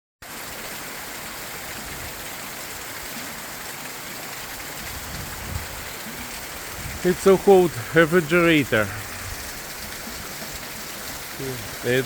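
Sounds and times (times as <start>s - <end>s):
rush of flowing water: 0.2s - 12.0s.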